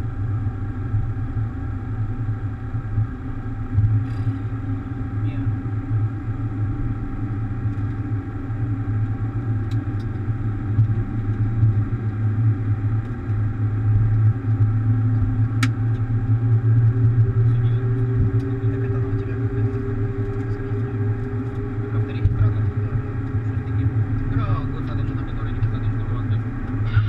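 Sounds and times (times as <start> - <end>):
cockpit rumble and hum: 0.0 - 27.0.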